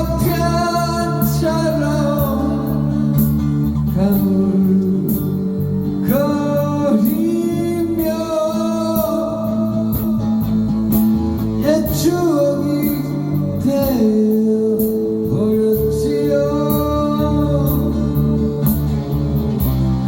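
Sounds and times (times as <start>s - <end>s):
guitar accompaniment: 0.0s - 20.0s
person singing slow song: 0.0s - 20.0s.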